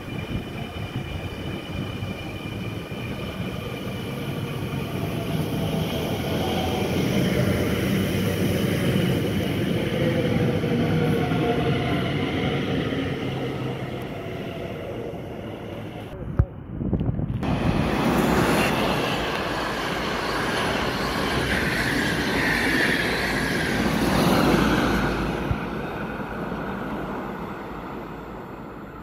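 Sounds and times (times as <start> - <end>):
electric train passing: 0.0 - 16.2, 17.2 - 29.0.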